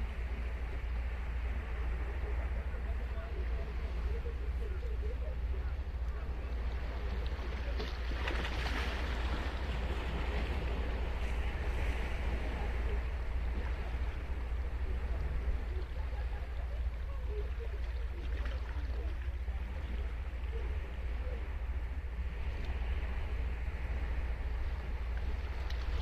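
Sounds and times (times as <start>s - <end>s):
ocean waves breaking on beach: 0.0s - 26.0s
wind rumble on microphone: 0.0s - 26.0s.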